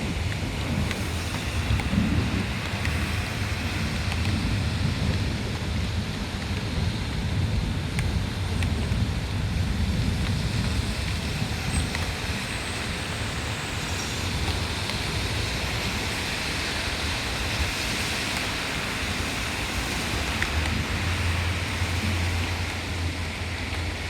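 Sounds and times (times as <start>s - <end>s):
heavy rain hiss: 0.0s - 24.0s.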